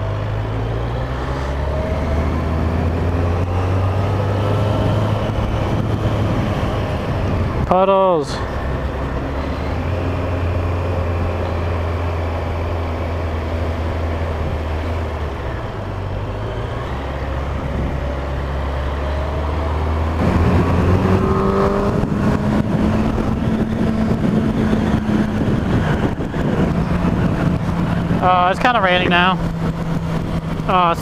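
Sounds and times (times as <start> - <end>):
motorcycle engine accelerating: 0.0 - 31.0
wind noise on microphone: 1.2 - 7.8, 8.5 - 18.7, 19.3 - 31.0.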